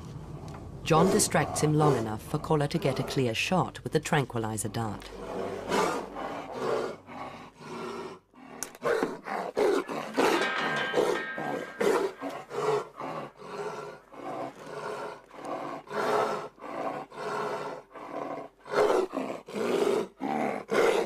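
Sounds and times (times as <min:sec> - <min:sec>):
tiger cub growling: 0:00.8 - 0:03.7, 0:05.0 - 0:21.0.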